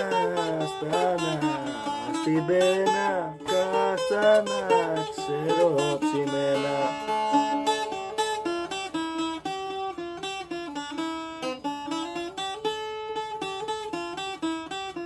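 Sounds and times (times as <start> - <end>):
bouzouki melody: 0.0 - 15.0.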